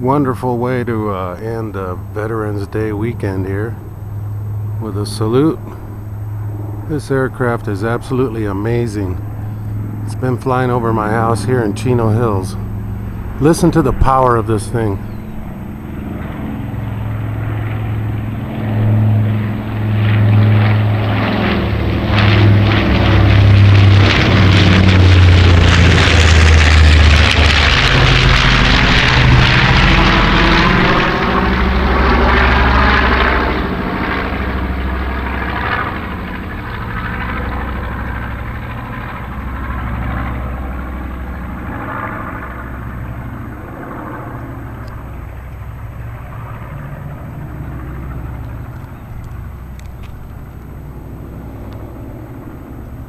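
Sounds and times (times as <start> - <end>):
propeller plane passing overhead: 0.0 - 53.0.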